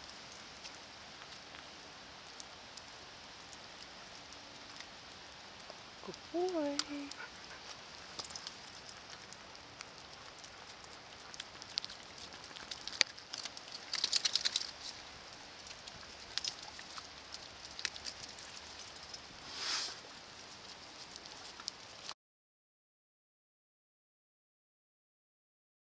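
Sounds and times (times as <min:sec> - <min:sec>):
close raindrop ticks: 0:00.0 - 0:19.4, 0:20.0 - 0:22.2
steady rain: 0:00.0 - 0:22.2.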